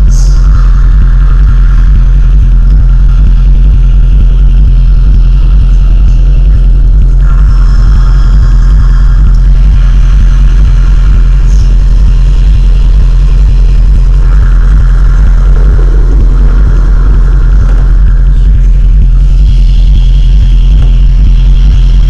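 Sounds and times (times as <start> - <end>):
electronic droning soundtrack: 0.0 - 22.0.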